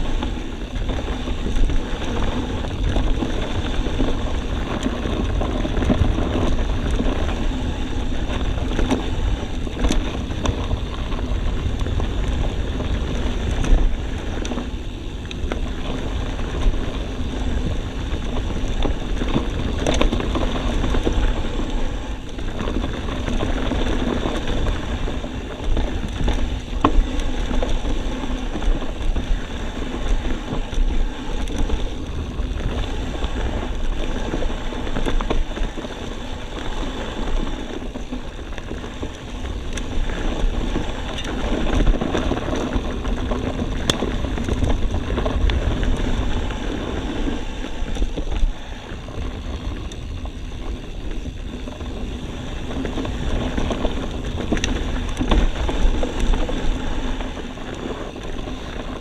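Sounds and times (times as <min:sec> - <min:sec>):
rolling trail noise: 0:00.0 - 0:59.0.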